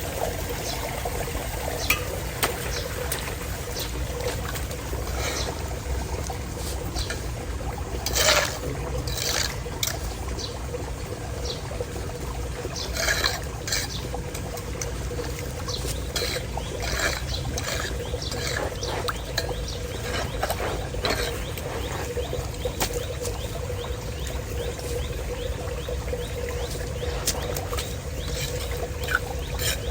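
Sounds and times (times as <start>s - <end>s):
water pouring into drain: 0.0s - 29.9s.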